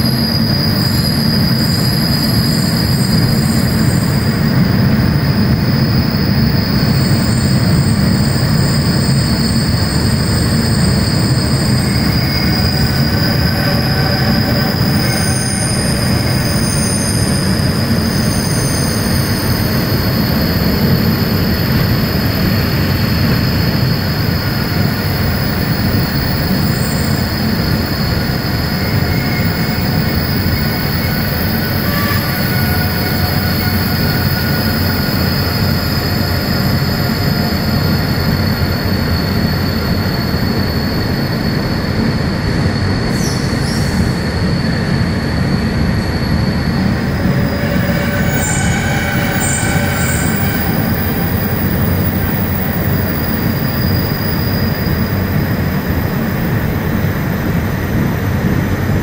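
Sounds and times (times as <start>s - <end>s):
high squeals: 0.0s - 59.0s
high whine: 0.0s - 59.0s
locomotive engine and wheel rumble: 0.0s - 59.0s.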